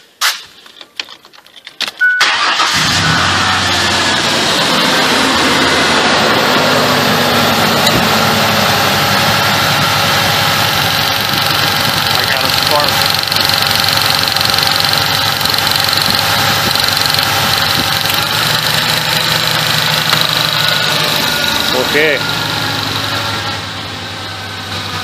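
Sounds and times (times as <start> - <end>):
misfiring engine running: 2.2 - 25.0.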